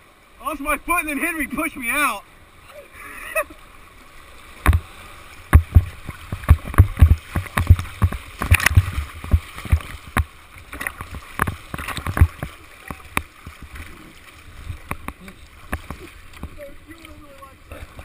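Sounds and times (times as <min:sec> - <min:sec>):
water rushing: 0:00.0 - 0:18.0
waves thumping and splashing: 0:00.0 - 0:18.0.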